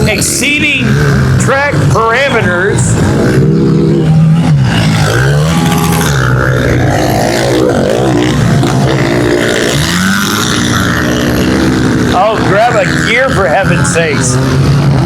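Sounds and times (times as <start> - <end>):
pit bike engines revving: 0.0 - 15.0.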